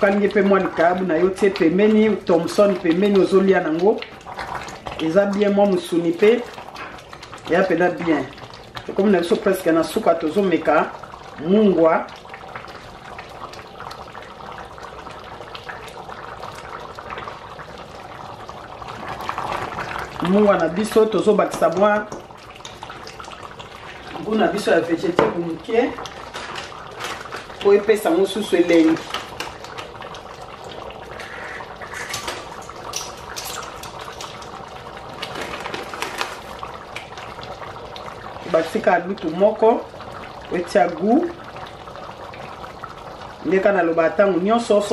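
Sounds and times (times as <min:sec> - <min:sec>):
stew bubbling and popping: 0:00.0 - 0:44.9.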